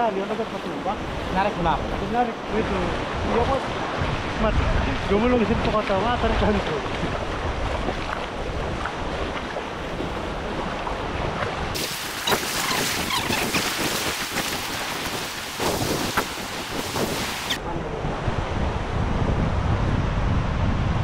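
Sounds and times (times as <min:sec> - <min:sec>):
surf washing onto beach: 0:00.0 - 0:19.9
wind buffeting microphone: 0:00.9 - 0:21.0.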